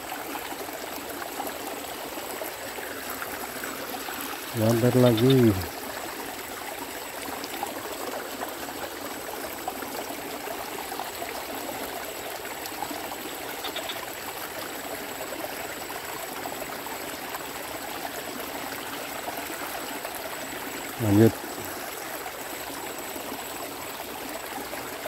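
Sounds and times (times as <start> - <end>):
water running in a ditch: 0.0 - 25.0.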